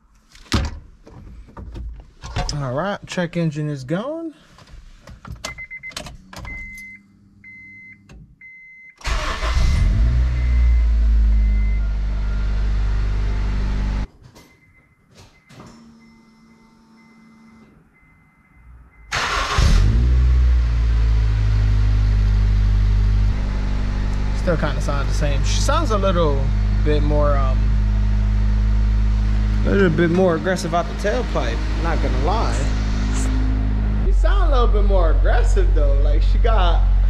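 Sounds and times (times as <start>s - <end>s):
car engine starting and running: 4.5s - 14.2s, 15.8s - 37.0s.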